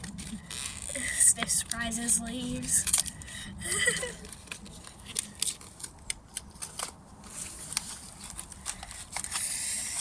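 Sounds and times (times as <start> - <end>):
paper and plastic crinkling: 0.0 - 10.0.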